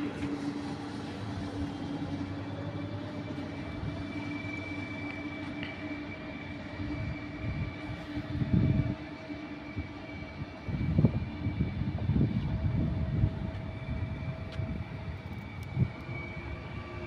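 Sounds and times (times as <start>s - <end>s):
low train rumbles: 0.0s - 17.0s
train electric hum: 0.0s - 17.0s.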